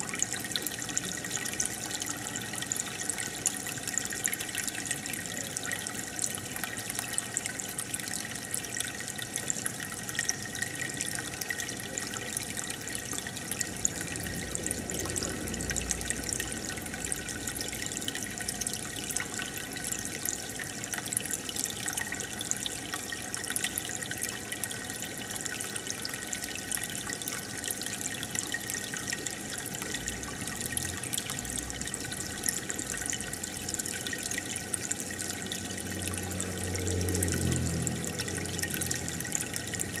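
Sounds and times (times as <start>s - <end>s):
aquarium water trickling and bubbling: 0.0s - 40.0s.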